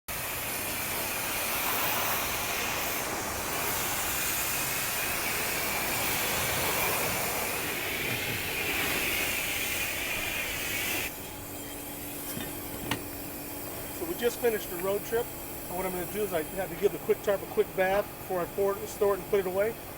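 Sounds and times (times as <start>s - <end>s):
pressure washer spray hissing: 0.1s - 19.9s.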